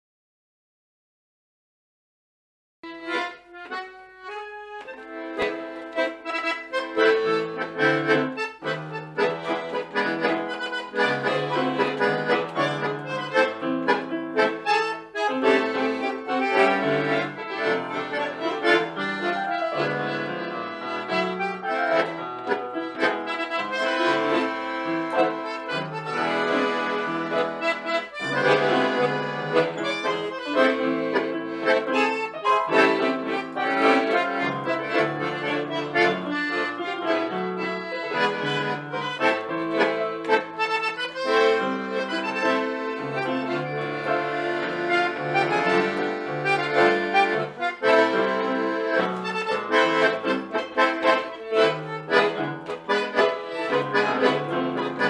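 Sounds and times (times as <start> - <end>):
bandoneon: 2.8 - 55.0
piano accordion: 2.8 - 55.0
electronic keyboard: 2.9 - 55.0.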